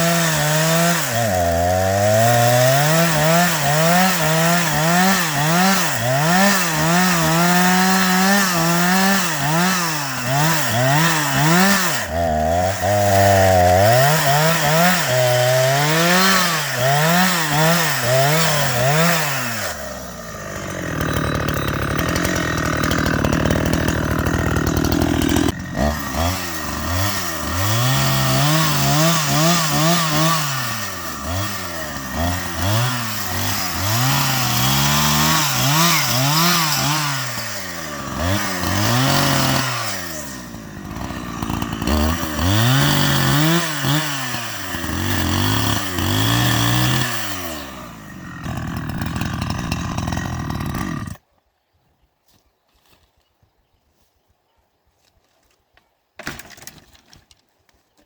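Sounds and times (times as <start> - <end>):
chainsaw cutting wood: 0.0 - 51.2, 56.2 - 57.4.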